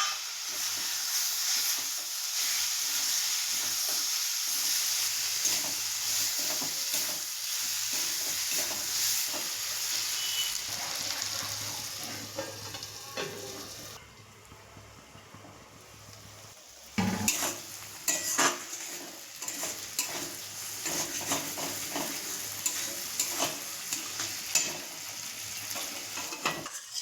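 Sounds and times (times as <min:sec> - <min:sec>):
spatula scraping a pan: 0:00.0 - 0:13.8, 0:17.0 - 0:27.0
food sizzling in a pan: 0:00.0 - 0:27.0.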